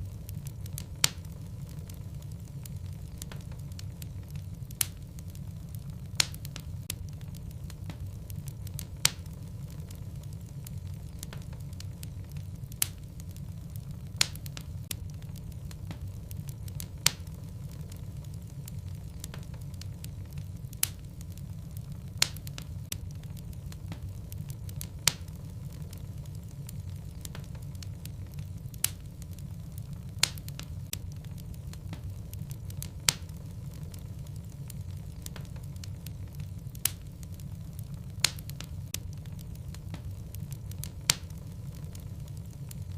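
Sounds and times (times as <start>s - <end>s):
logs crackling in fireplace: 0.0s - 42.9s
low fire rumble: 0.0s - 42.9s.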